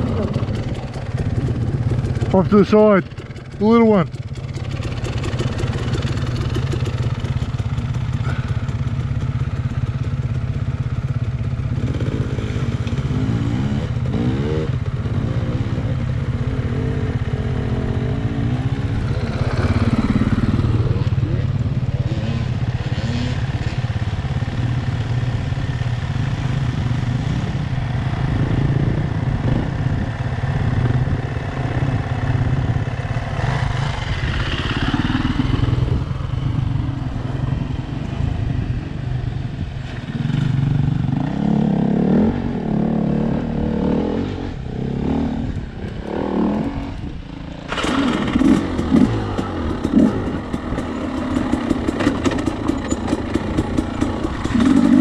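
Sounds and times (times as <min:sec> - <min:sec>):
dirt bike pulling away under throttle: 0:00.0 - 0:09.8, 0:10.8 - 0:55.0
dirt bike approaching: 0:00.0 - 0:55.0
dirt bike engine idling: 0:00.0 - 0:55.0.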